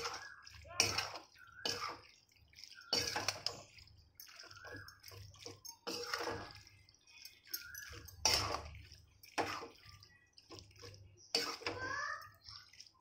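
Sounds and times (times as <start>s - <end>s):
spoon stirring pasta in metal pan: 0.0s - 13.0s.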